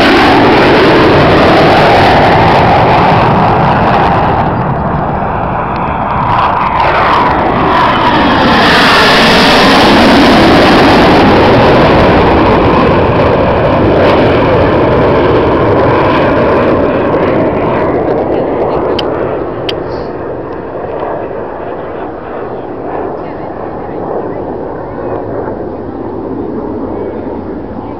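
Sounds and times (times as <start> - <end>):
jet flying past low: 0.0 - 27.9.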